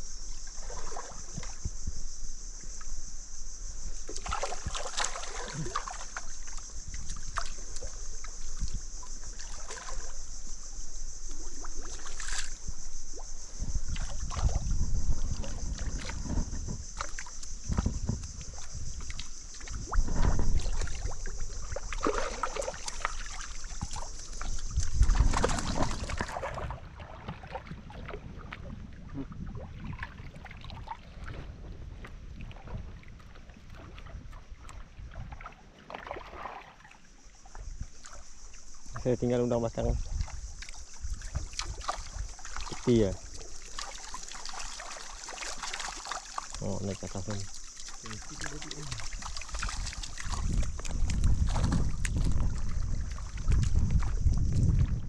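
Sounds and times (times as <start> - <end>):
water sloshing and splashing: 0.0 - 55.0.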